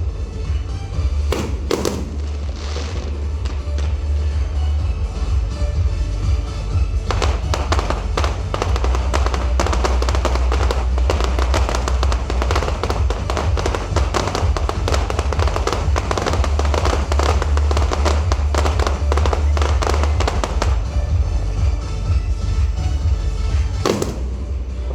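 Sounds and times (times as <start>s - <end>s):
fireworks bangs and crackles: 0.0s - 24.9s
loud music with heavy bass: 0.0s - 24.9s.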